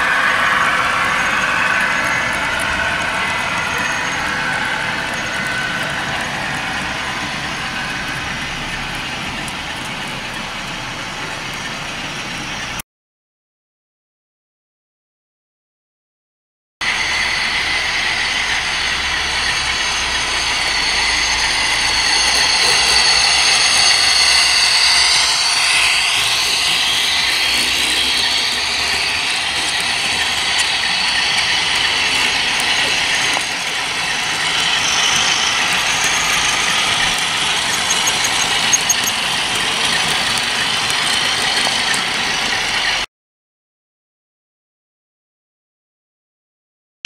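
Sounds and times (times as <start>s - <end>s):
model train wheels rolling: 0.0s - 12.8s, 16.8s - 43.0s
train motor whine: 0.0s - 12.8s, 16.8s - 43.0s.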